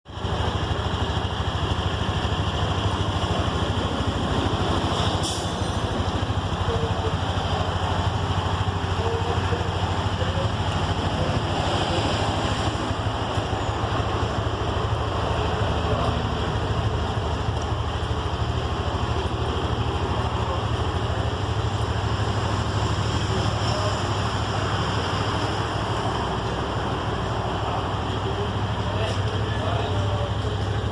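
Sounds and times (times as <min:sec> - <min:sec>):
scooter engine idling: 0:00.0 - 0:30.9.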